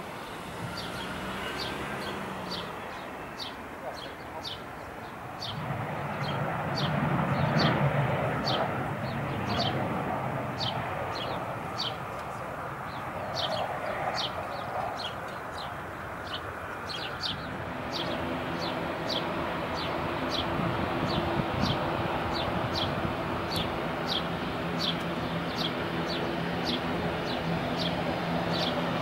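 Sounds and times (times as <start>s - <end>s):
distant jet aircraft rumble: 0.0s - 29.0s.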